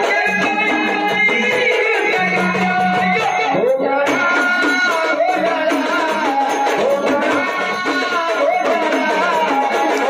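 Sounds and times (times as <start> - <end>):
drum beating steady rhythm: 0.0 - 10.0.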